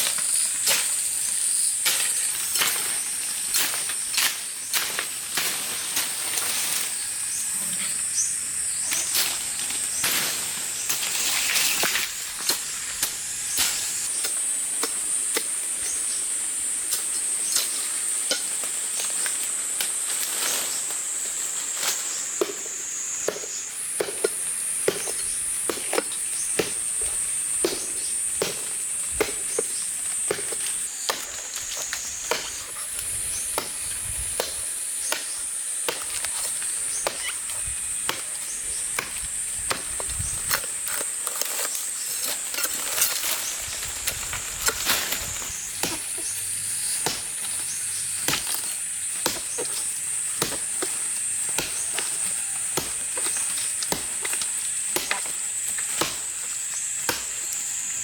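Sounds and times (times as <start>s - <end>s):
blade chopping strokes: 0.0s - 7.4s, 8.8s - 58.0s
high-pitched insect drone: 0.0s - 58.0s.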